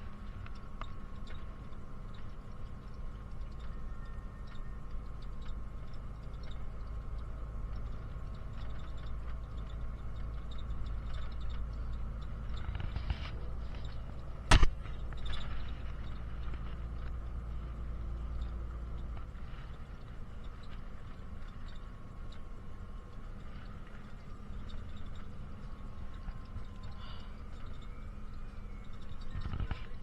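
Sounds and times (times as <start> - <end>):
bus engine and road rumble: 0.0 - 30.0
ticks and rattles: 0.0 - 30.0.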